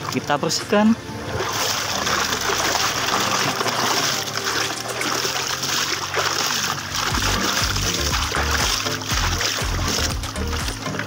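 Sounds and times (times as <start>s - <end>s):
water gushing onto toy truck: 1.4s - 11.0s.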